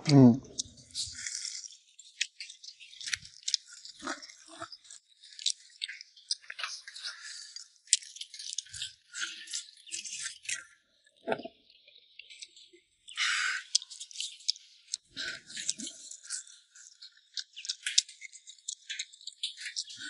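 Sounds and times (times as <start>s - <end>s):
chewing and crunching: 0.1s - 11.5s, 12.2s - 20.0s.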